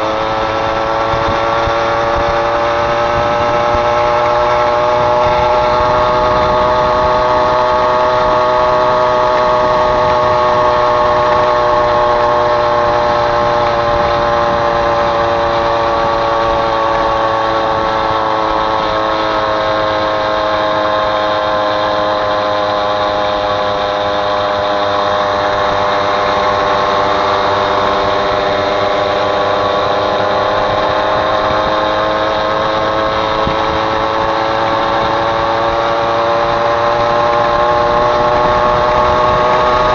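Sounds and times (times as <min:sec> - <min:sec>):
moped engine running: 0:00.0 - 0:39.9.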